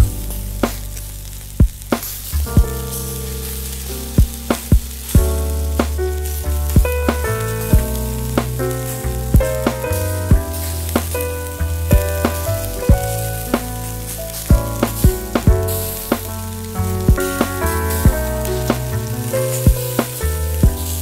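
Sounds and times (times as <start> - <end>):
background music: 0.0 - 21.0
beef sizzling on a grill: 2.2 - 21.0.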